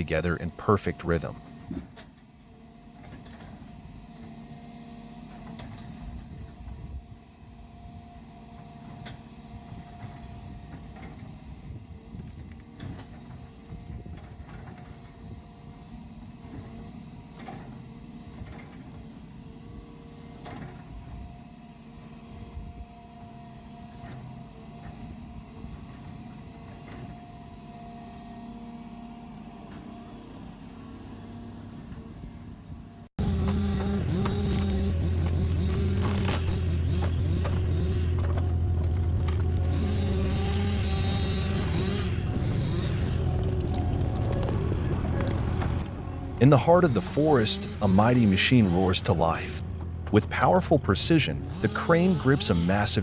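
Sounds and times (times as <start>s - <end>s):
machine engine running: 0.0s - 53.0s.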